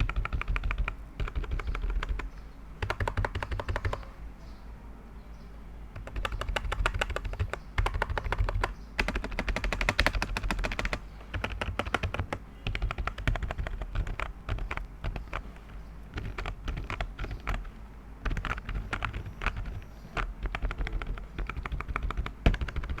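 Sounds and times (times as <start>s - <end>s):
keyboard key clicks: 0.0s - 4.1s, 6.0s - 17.7s, 18.3s - 23.0s.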